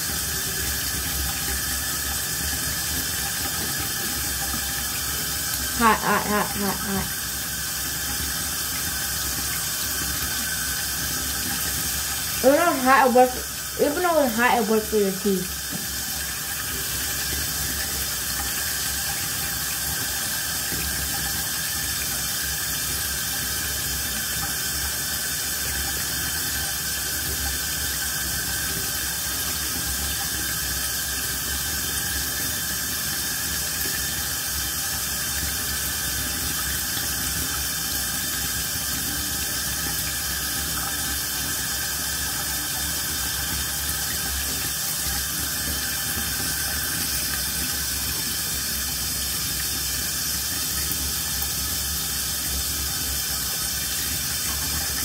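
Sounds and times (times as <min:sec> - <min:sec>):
tap water running into basin: 0:00.0 - 0:55.0.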